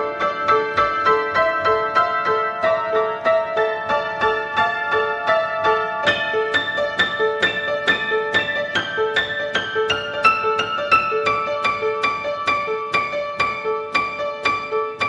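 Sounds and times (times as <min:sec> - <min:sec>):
upright piano notes: 0:00.0 - 0:15.0.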